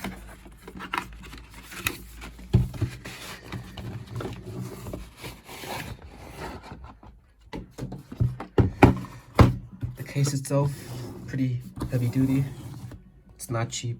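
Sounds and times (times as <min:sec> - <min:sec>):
plastic case rubbing and scraping: 0:00.0 - 0:07.2, 0:08.0 - 0:13.0.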